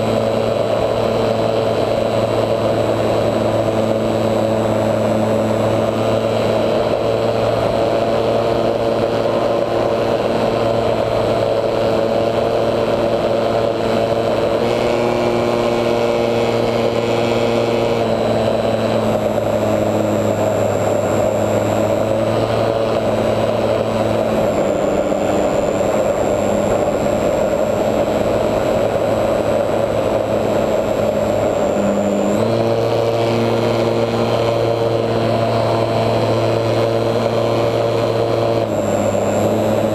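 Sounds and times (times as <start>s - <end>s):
electric motor and propeller: 0.0s - 39.9s.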